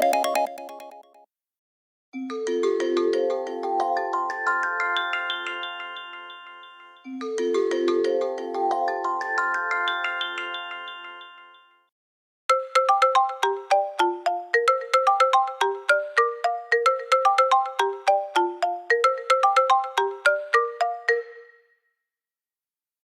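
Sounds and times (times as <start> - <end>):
chiming phone ringtone: 0.0 - 1.2, 2.5 - 11.9, 12.5 - 21.7
fast bright ringtone melody: 0.0 - 1.2, 2.4 - 11.9, 12.5 - 21.7.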